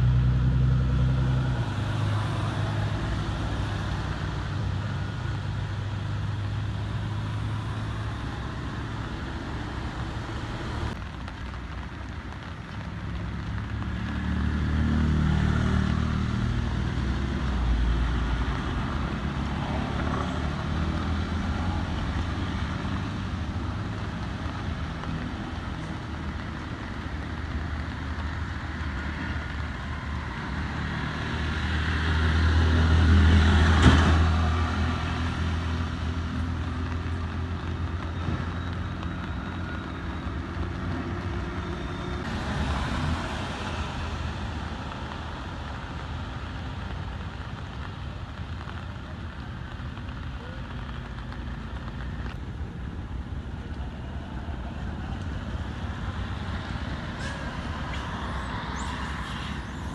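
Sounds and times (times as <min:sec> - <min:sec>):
vehicles passing on road: 0:00.0 - 0:59.9.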